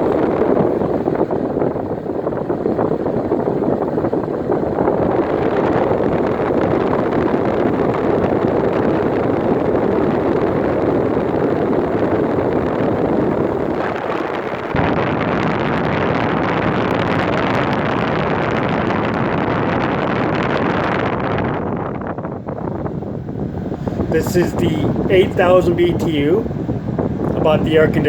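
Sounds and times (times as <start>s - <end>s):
air conditioner fan blowing: 0.0s - 28.0s.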